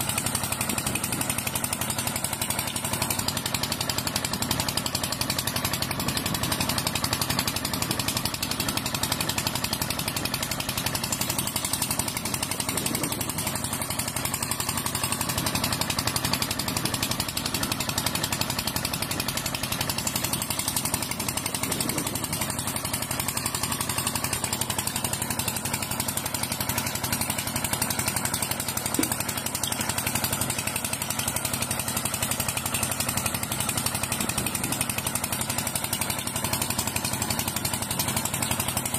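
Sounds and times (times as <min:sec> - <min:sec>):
water pump motor buzzing: 0:00.0 - 0:38.9.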